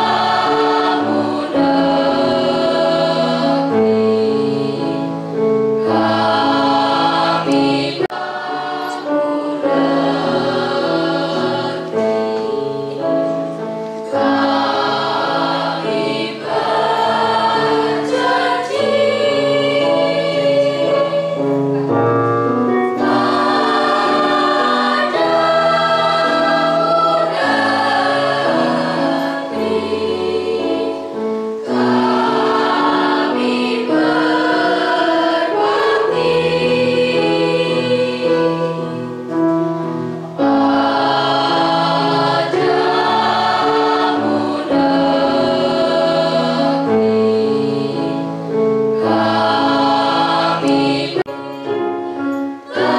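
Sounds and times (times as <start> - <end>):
choir singing in harmony: 0.0 - 52.9.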